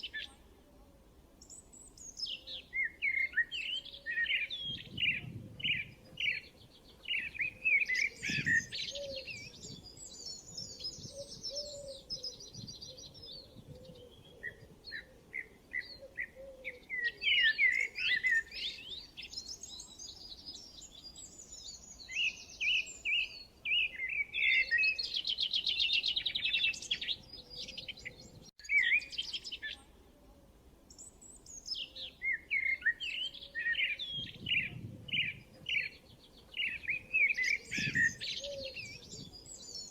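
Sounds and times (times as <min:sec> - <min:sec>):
songbirds chirping and singing: 0:01.4 - 0:39.9.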